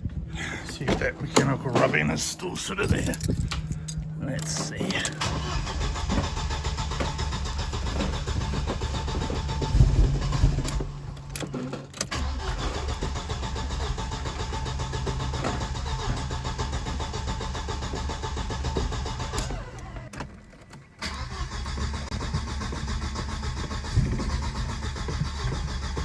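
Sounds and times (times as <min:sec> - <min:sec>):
car engine cranking on starter: 0:00.4 - 0:26.0.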